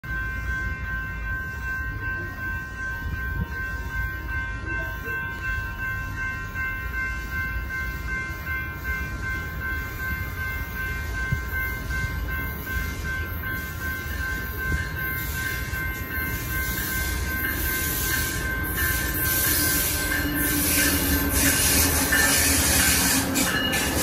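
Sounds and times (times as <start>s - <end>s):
train low rumble: 0.0s - 24.0s
steady high tones: 0.1s - 24.0s.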